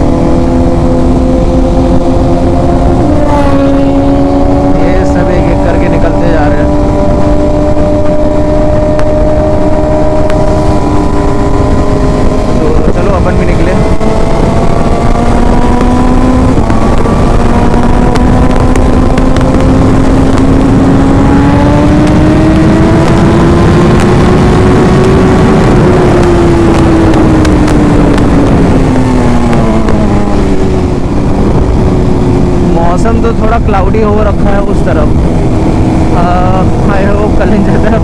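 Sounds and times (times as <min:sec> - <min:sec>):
motorcycle engine hum: 0:00.0 - 0:38.0
wind rush on microphone: 0:00.0 - 0:38.0.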